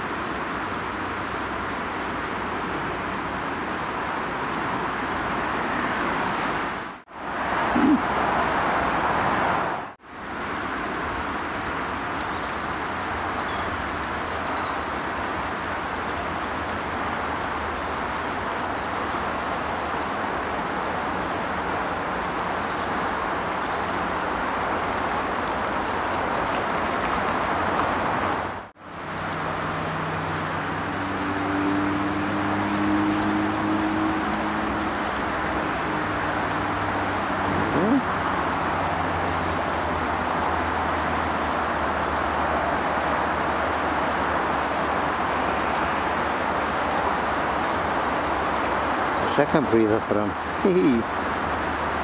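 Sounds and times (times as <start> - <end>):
river water over rapids: 0.0 - 52.0.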